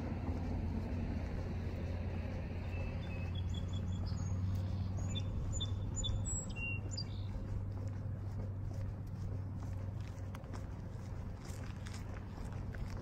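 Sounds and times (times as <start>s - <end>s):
steady low hum: 0.0s - 13.0s
small birds chirping: 1.3s - 13.0s.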